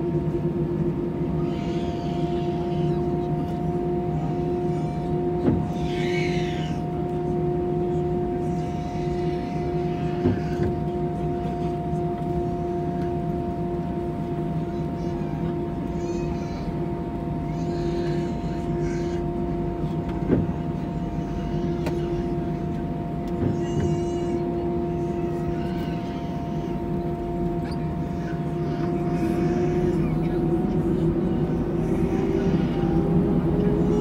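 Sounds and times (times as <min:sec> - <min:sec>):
airliner engines humming: 0:00.0 - 0:34.0
faint voices: 0:00.0 - 0:34.0.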